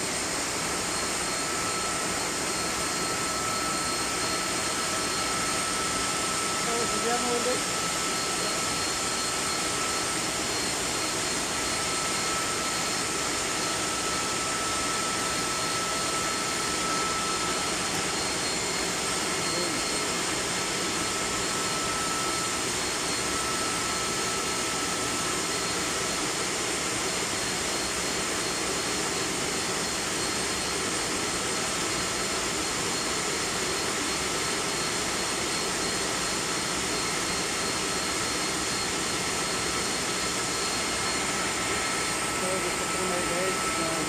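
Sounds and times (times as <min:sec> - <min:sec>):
high-pitched machine whines: 0:00.0 - 0:44.0.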